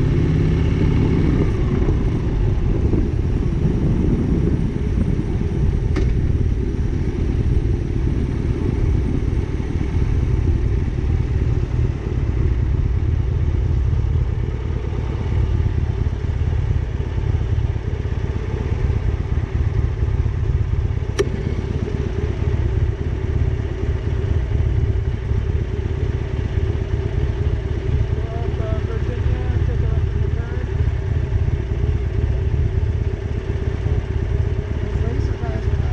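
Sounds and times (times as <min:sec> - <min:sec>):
motorcycle engine running: 0:00.0 - 0:35.9
road and wind rumble: 0:00.0 - 0:35.9.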